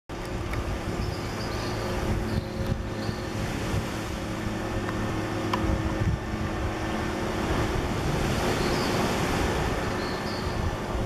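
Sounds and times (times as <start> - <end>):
low rumbling background noise: 0.1 - 11.0.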